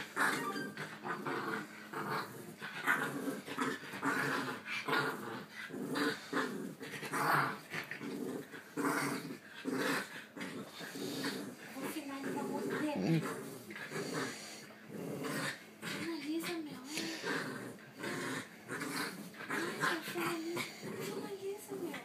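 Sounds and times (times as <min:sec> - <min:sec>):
dogs growling: 0:00.0 - 0:22.0.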